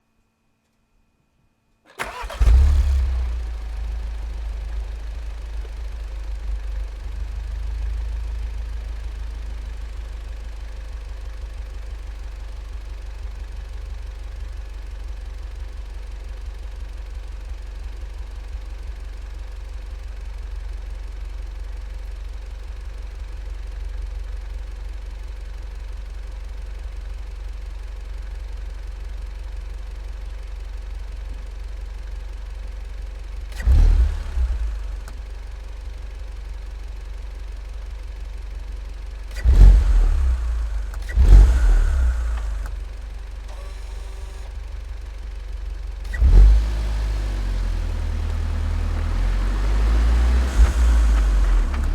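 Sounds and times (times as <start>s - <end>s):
car engine idling: 2.0s - 51.9s.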